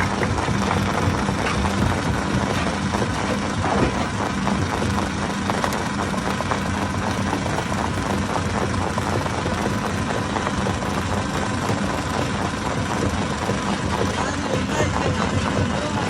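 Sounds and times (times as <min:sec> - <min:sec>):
stone crusher machine hum: 0:00.0 - 0:16.0.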